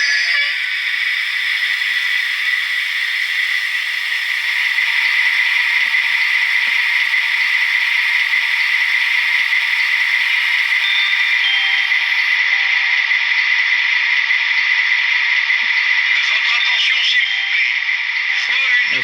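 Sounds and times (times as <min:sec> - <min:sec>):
model locomotive diesel engine sound: 0:00.0 - 0:19.0.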